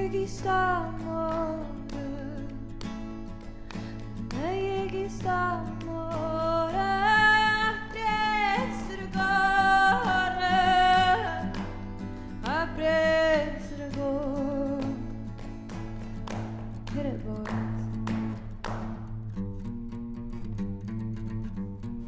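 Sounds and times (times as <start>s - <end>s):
woman singing: 0.0s - 18.4s
plucked acoustic guitars: 0.0s - 22.0s.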